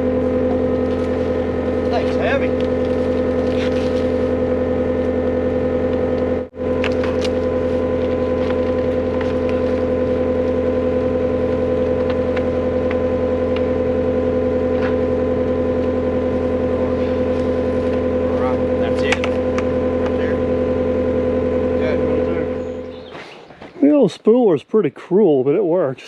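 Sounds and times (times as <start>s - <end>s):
heavy equipment engine running: 0.0s - 24.1s.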